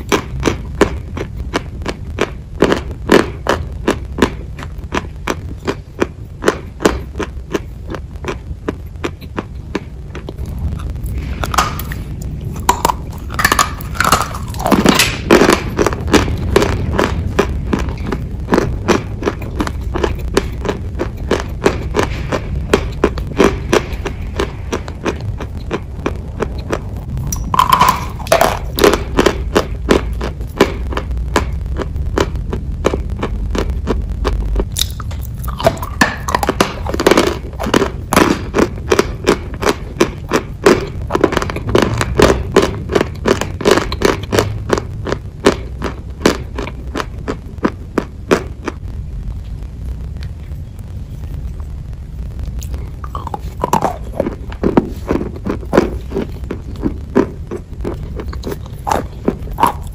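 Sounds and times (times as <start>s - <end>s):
chalk crunching and chewing: 0.0s - 48.8s, 52.4s - 59.9s
low steady rumble: 0.0s - 59.9s.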